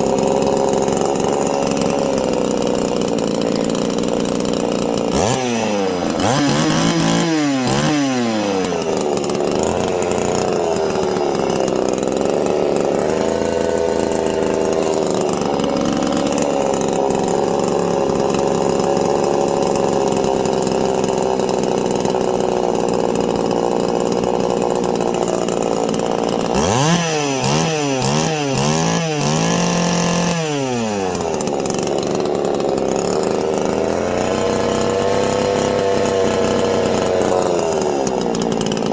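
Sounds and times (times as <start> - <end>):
chainsaw running: 0.0 - 38.9
chainsaw throttle blips: 0.0 - 38.9.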